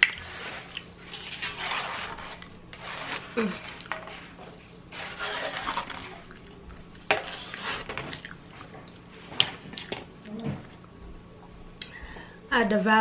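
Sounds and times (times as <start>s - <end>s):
rustling food packaging: 0.2s - 10.8s.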